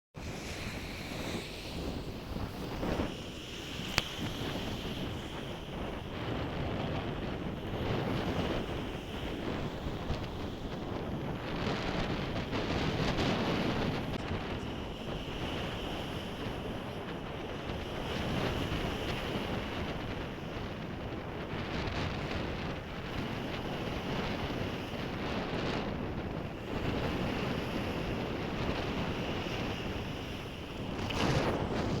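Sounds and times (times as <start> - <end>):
sea waves breaking on shore: 0.2 - 32.0
wind buffeting microphone: 0.2 - 32.0.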